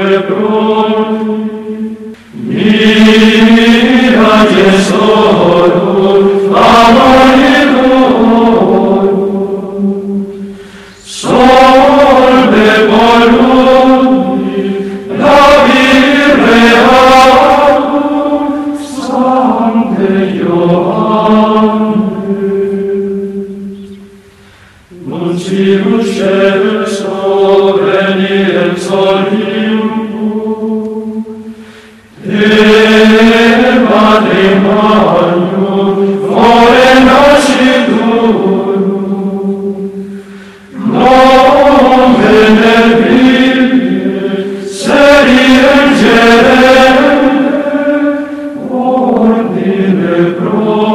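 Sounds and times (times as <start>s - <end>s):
voices chanting sustained notes: 0.0s - 50.9s.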